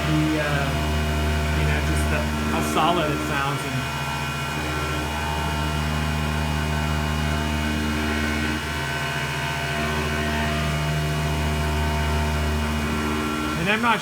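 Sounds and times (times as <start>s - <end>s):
milling machine cutting: 0.0s - 14.0s.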